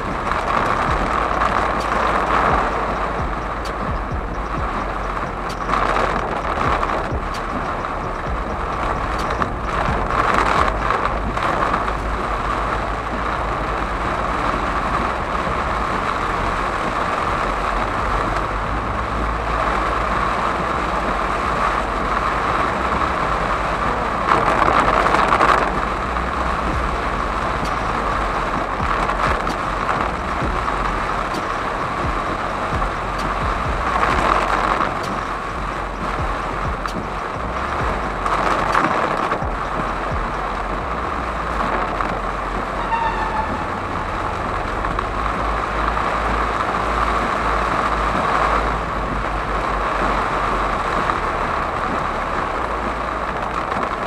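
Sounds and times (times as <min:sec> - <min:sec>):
heavy rain drumming on a car: 0:00.0 - 0:54.0
low car rumble: 0:00.0 - 0:54.0.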